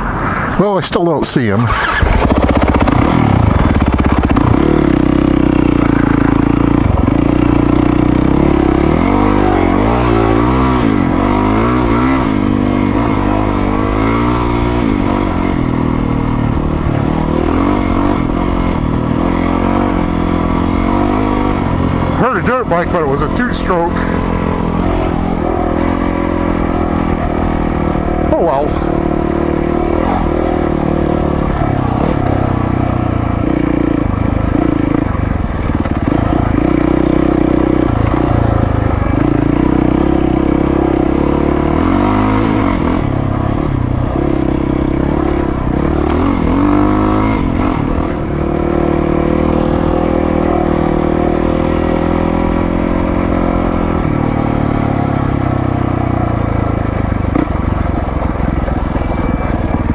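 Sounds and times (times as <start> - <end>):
dirt bike engine running: 1.7 - 59.9.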